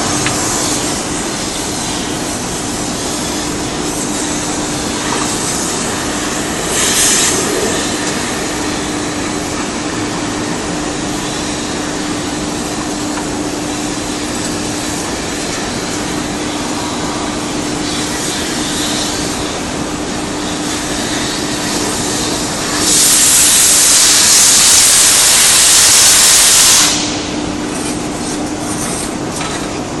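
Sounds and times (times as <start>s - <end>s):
compressed air hissing: 0.0s - 29.2s
steady industrial roar: 0.0s - 30.0s.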